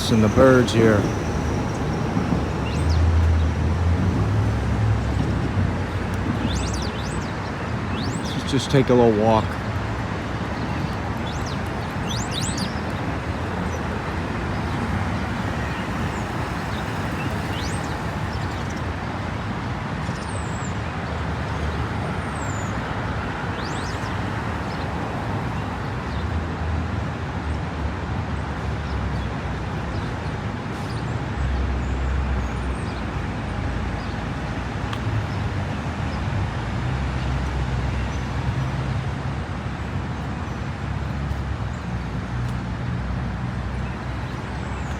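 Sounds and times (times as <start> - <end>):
deep traffic rumble: 0.0 - 44.9
passing cars: 0.0 - 44.9.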